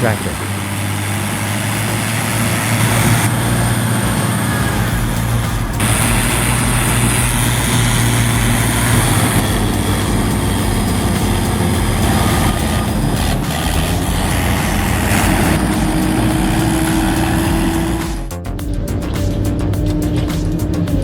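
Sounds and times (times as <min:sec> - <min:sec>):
diesel machinery engine running: 0:00.0 - 0:21.0.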